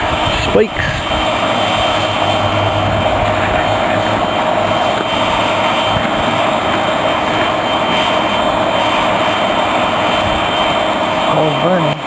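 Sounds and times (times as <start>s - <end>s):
air pump motor whine: 0.0s - 12.0s
air rushing through burning coal: 0.0s - 12.0s.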